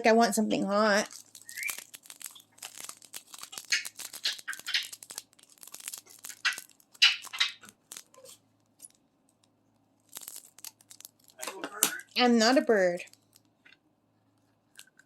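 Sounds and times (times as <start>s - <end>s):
plastic bags crinkling: 0.8s - 13.6s, 14.7s - 15.0s.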